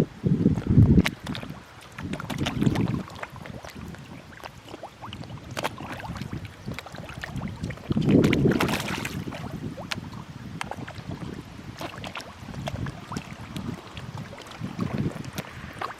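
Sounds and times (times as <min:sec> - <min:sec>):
low rushing water swells: 0:00.0 - 0:15.9
fish splashing and slurping: 0:00.1 - 0:15.9.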